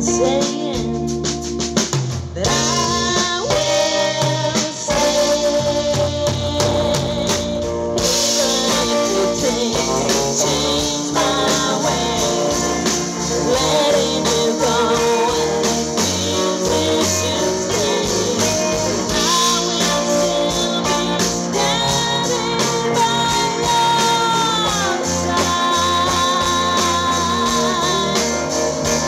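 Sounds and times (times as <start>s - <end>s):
woman singing: 0.0s - 1.4s, 2.4s - 29.0s
live band playing: 0.0s - 29.0s
cymbals: 1.2s - 29.0s.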